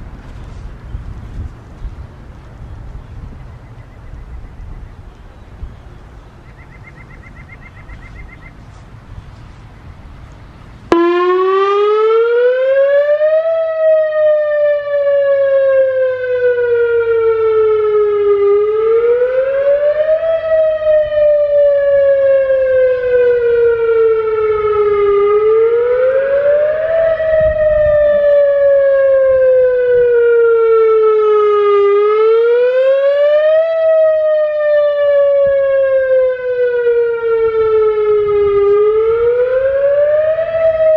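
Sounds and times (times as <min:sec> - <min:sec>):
outdoor warning siren rising and falling: 0:06.4 - 0:40.9.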